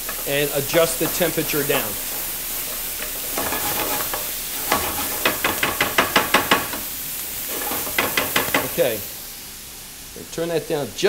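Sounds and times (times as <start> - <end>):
stirring strokes in a pan: 0.0 - 10.1
vegetables sizzling in a pan: 0.0 - 11.0.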